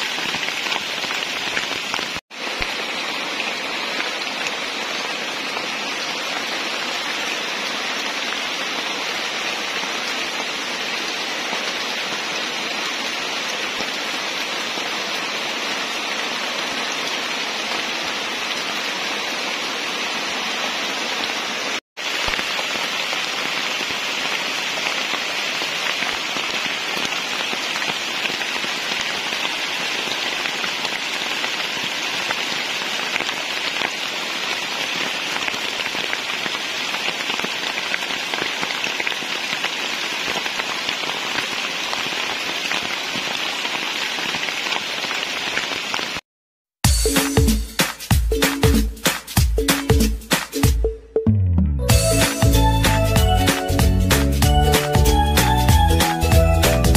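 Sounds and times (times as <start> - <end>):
rain falling on leaves: 0.0 - 46.2, 52.0 - 56.9.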